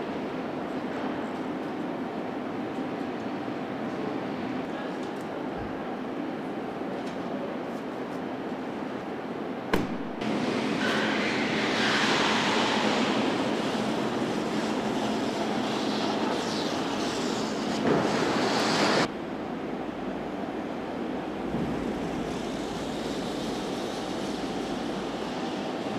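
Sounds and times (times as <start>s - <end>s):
factory machinery noise: 0.0s - 25.9s.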